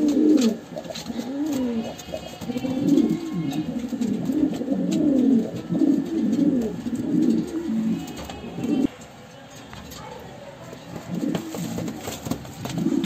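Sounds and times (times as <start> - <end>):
pigeons cooing: 0.0 - 8.9, 11.0 - 13.0.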